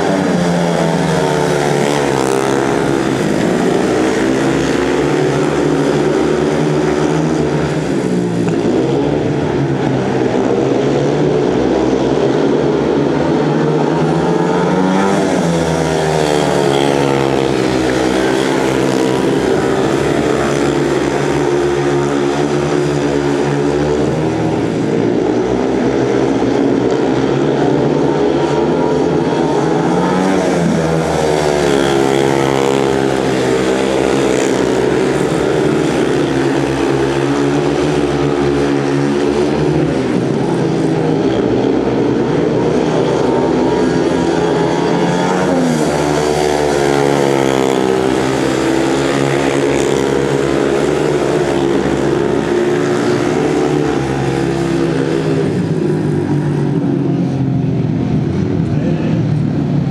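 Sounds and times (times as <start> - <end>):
motorcycle engines racing: 0.0 - 59.9.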